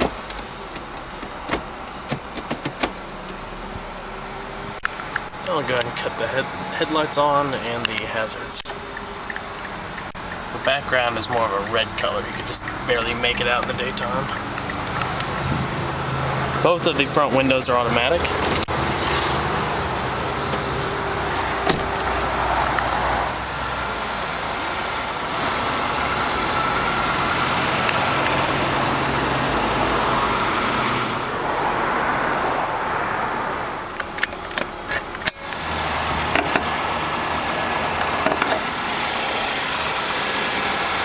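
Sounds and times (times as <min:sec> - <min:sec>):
car engine idling: 0:00.0 - 0:32.0, 0:33.6 - 0:41.0.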